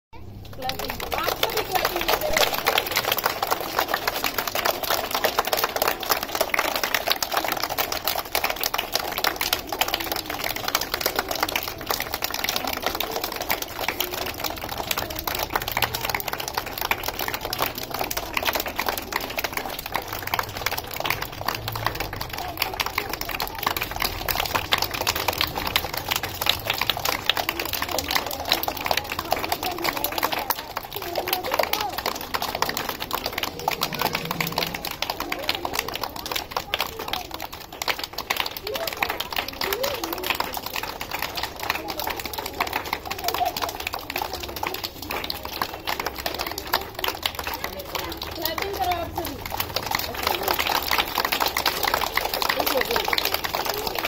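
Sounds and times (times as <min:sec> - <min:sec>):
group of people clapping: 0:00.2 - 0:54.0.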